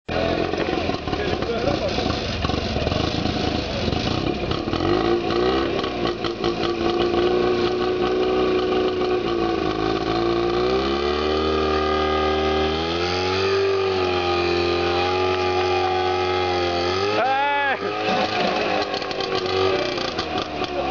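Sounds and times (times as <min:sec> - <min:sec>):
tractor engine running at high revs: 0:00.1 - 0:20.9.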